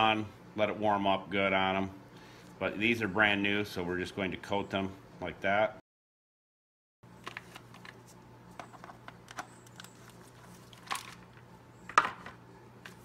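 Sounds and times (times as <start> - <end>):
steady low hum: 0.0 - 5.8, 7.0 - 13.0.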